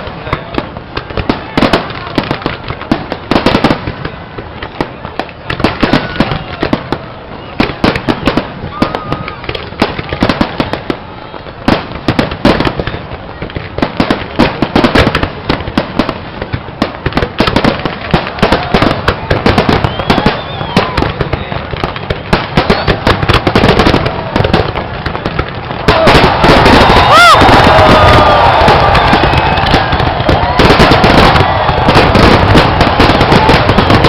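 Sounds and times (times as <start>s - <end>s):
fireworks bangs: 0.0s - 34.0s
fireworks crackling pops: 0.0s - 34.0s.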